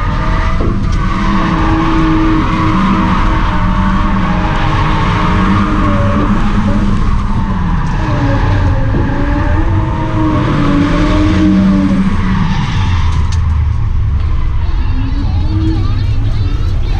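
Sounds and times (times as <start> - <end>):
car engine running hard: 0.0 - 16.9
tyres skidding: 0.0 - 16.9.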